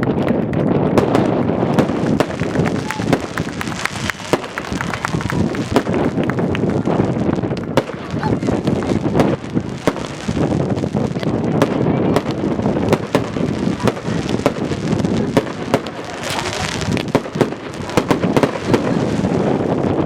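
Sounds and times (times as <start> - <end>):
firecrackers popping: 0.0 - 20.0.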